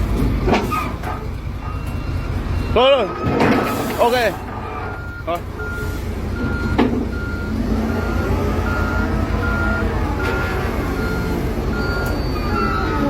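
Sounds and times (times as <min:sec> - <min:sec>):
truck engine running: 0:00.0 - 0:13.0
reversing alarm beeping: 0:01.6 - 0:13.0.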